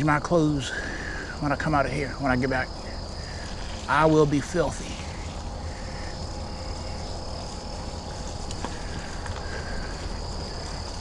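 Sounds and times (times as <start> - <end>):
bicycle tyres rumbling on trail: 0.0 - 11.0
high insect trill: 0.0 - 11.0.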